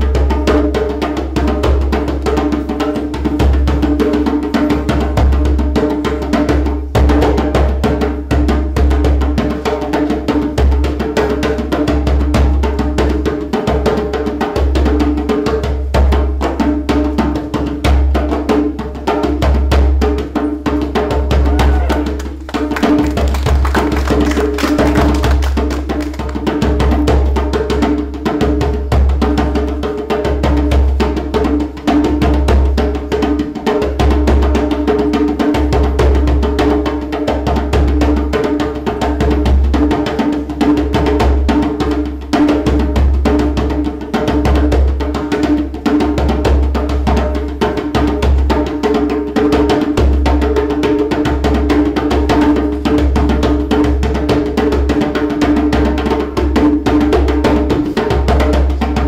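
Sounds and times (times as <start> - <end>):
djembe played by hand: 0.0 - 59.0.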